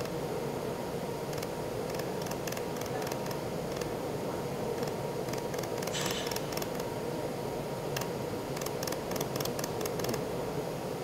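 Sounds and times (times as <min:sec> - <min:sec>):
cooling fan hum: 0:00.0 - 0:11.0.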